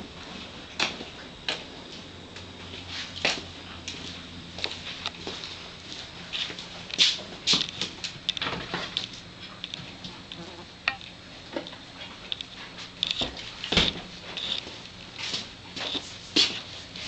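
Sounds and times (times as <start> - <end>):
horse hooves on barn floor: 0.0 - 10.6, 11.5 - 17.0.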